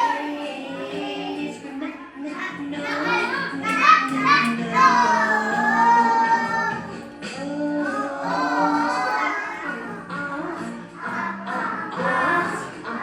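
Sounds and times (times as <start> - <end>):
backing music: 0.0 - 13.0
child singing: 0.0 - 13.0.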